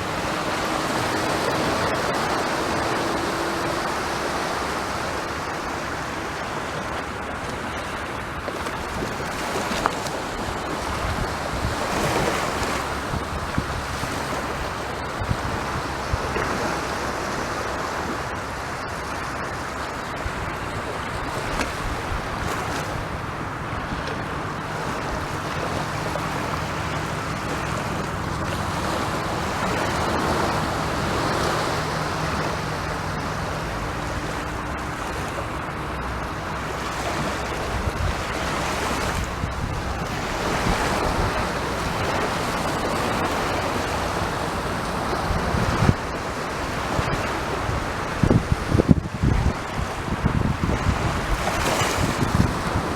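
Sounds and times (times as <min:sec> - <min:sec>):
sea waves breaking on beach: 0:00.0 - 0:52.9
wind buffeting microphone: 0:00.0 - 0:52.9.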